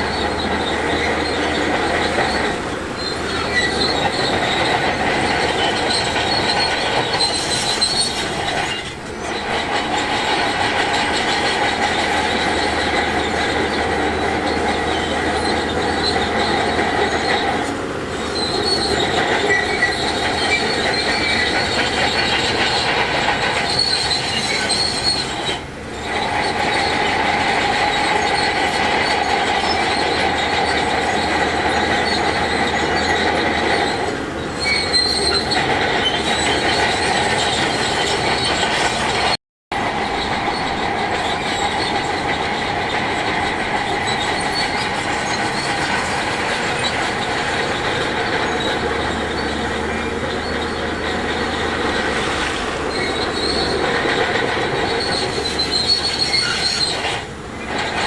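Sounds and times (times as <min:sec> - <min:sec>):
bulldozer tracks squealing and clanking: 0:00.0 - 0:58.0.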